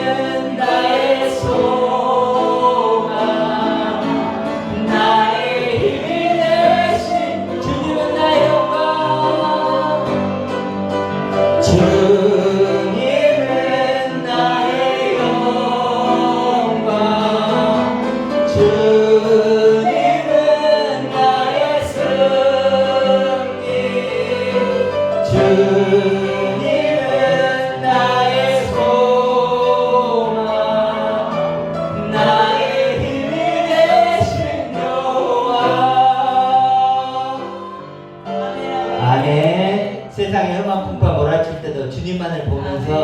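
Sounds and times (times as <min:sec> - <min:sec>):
group singing praise song: 0:00.0 - 0:40.4, 0:42.5 - 0:43.0
instrumental accompaniment: 0:00.0 - 0:43.0.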